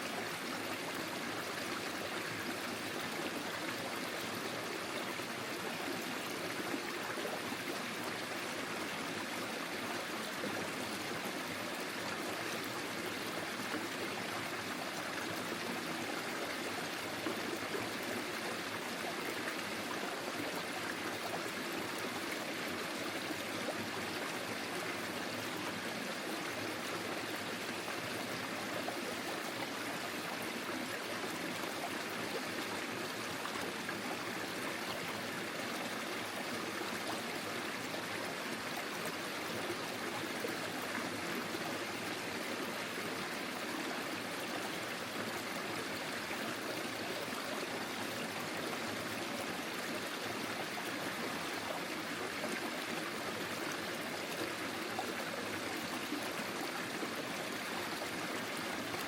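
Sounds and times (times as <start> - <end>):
stream babbling over stones: 0.0 - 59.0.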